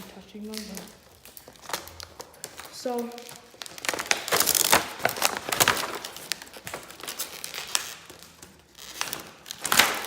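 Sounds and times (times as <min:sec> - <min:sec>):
broken laptop pieces crackling: 0:00.4 - 0:10.0.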